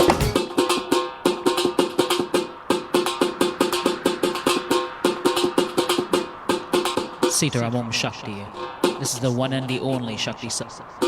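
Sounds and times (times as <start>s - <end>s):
drums playing fast rhythm: 0.0s - 10.2s.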